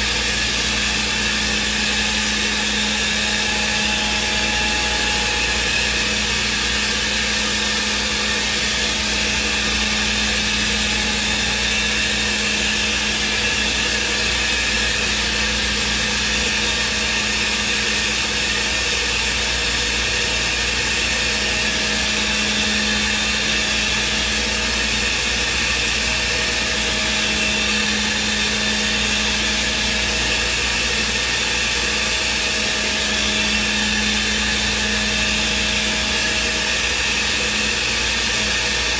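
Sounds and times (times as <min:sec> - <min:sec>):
router spindle high-speed whine: 0:00.0 - 0:38.9.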